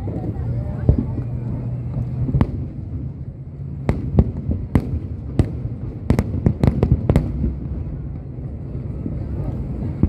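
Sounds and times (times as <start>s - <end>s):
fireworks cracking: 0.0s - 10.0s
steady low rumble: 0.0s - 10.0s.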